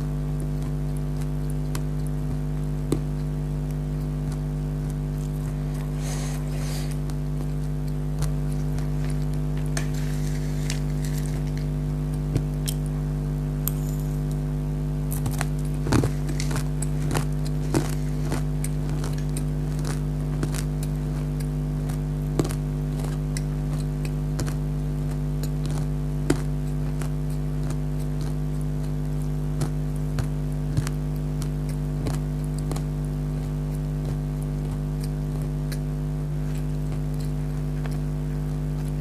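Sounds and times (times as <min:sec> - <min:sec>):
low electrical hum: 0:00.0 - 0:39.0
snack mix being chewed: 0:00.0 - 0:39.0.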